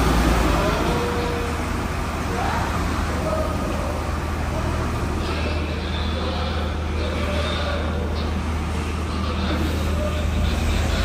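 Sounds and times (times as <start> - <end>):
heavy equipment engine drone: 0.0 - 11.0.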